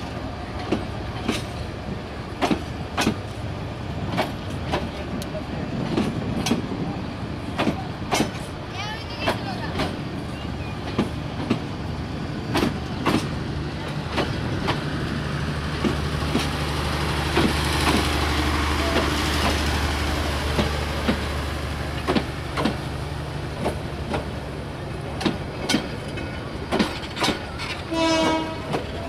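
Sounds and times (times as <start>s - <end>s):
wheels clacking over rail joints: 0.0s - 29.0s.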